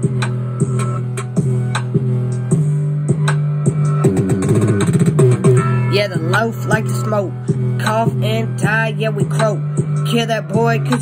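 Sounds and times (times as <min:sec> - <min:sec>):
instrumental rap beat: 0:00.0 - 0:11.0.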